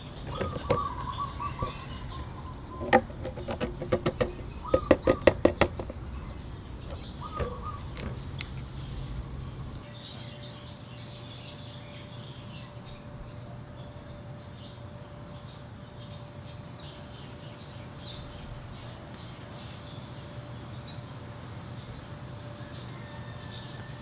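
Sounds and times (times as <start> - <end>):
birds chirping: 0.0 - 24.0
steady hum: 0.0 - 24.0.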